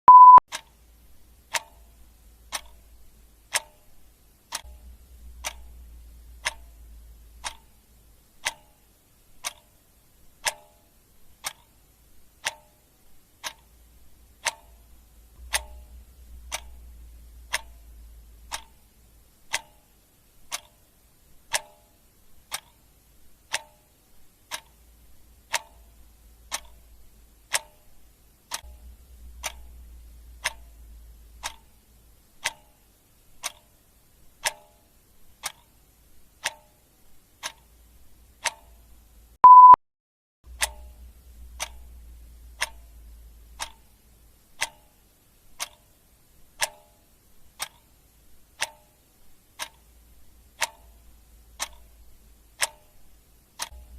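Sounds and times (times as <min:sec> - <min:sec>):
clock ticking: 0:00.1 - 0:39.8, 0:40.5 - 0:53.9
faint low hum: 0:00.1 - 0:39.8, 0:40.5 - 0:53.9.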